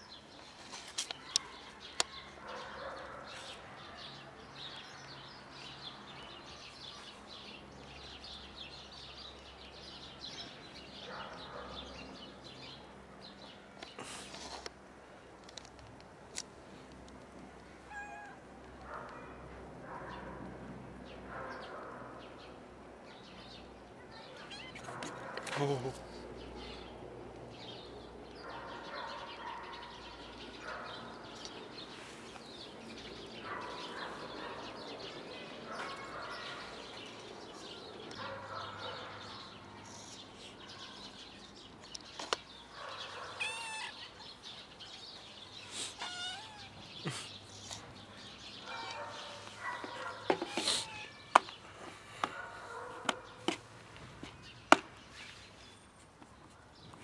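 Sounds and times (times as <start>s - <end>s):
birds chirping: 0.0s - 14.4s, 15.2s - 20.4s, 21.0s - 57.0s.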